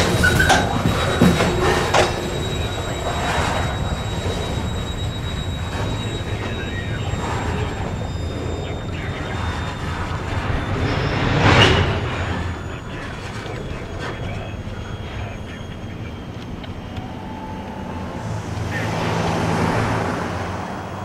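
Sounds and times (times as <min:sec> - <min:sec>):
freight train cars rumbling: 0:00.0 - 0:21.0.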